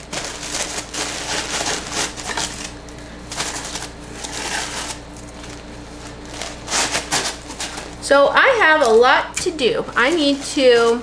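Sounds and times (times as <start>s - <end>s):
paper rustling and crinkling: 0.0s - 8.0s, 9.9s - 11.0s.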